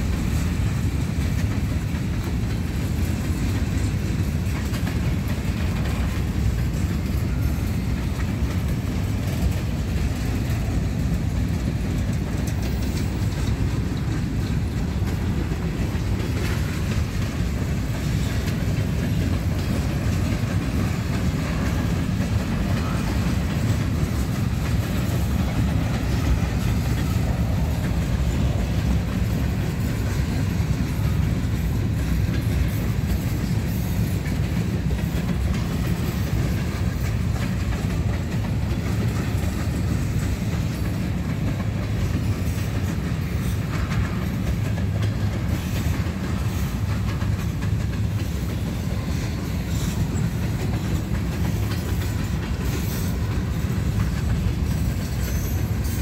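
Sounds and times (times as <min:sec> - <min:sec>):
freight train rumble: 0:00.0 - 0:56.0
wheels clicking over rails: 0:00.0 - 0:56.0.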